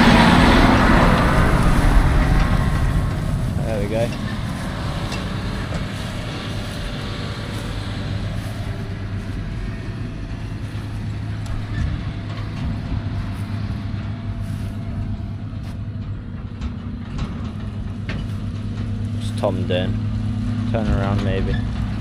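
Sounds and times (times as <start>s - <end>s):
diesel farm machinery running: 0.0s - 22.0s.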